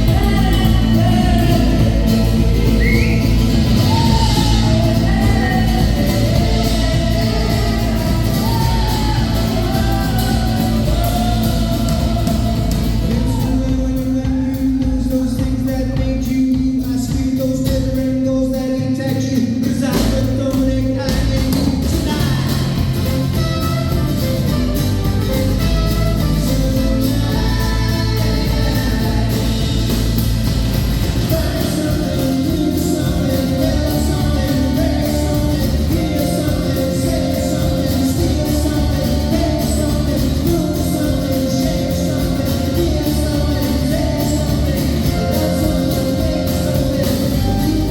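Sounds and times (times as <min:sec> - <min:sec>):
live rock band playing: 0:00.0 - 0:47.9
person singing: 0:00.0 - 0:47.9.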